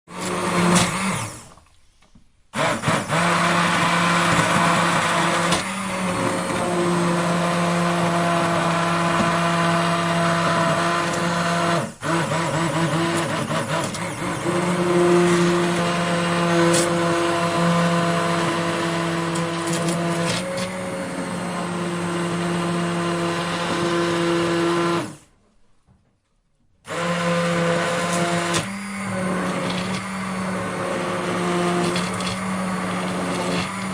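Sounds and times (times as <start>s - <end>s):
electric blender motor whirring: 0.1s - 1.6s, 2.6s - 25.3s, 26.8s - 33.9s.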